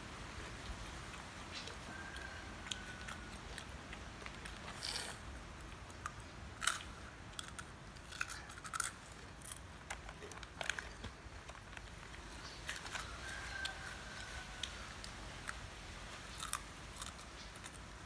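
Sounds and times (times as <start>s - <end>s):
crunchy snack being chewed: 0.3s - 18.0s.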